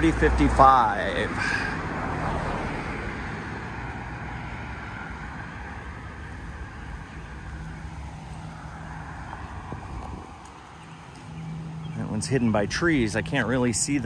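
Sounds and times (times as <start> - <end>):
car passing on street: 0.0 - 14.0.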